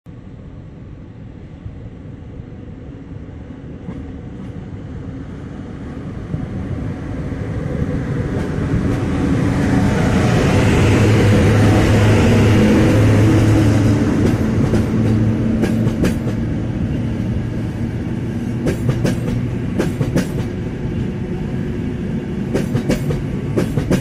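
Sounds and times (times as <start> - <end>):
locomotive rumble: 2.2 - 24.0.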